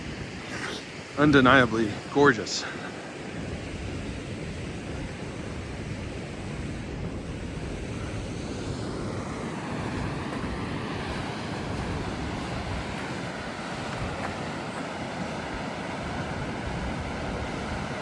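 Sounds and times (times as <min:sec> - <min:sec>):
waterfall roar: 0:00.0 - 0:18.0
wind on microphone: 0:00.0 - 0:18.0.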